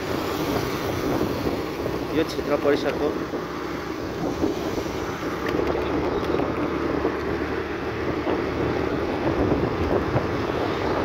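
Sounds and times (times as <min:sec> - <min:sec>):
vehicle running noise: 0:00.0 - 0:11.0
wind rushing over microphone: 0:00.0 - 0:11.0.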